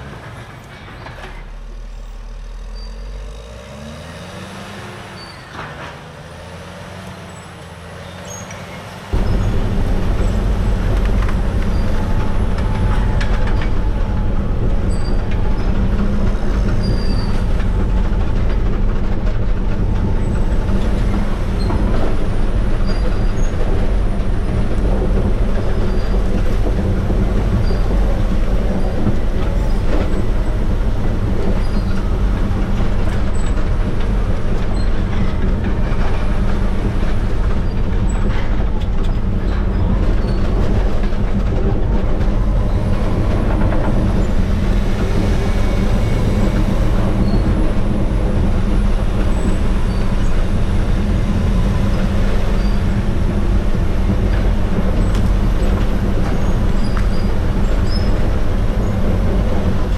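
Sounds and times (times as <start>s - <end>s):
diesel engine running under load: 0.0s - 59.9s
machine knocks and clanks: 9.1s - 59.9s.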